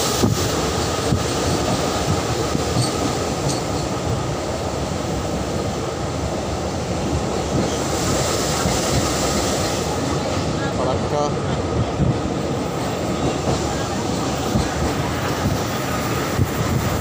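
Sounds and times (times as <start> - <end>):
train carriage rumble and rattle: 0.0 - 17.0.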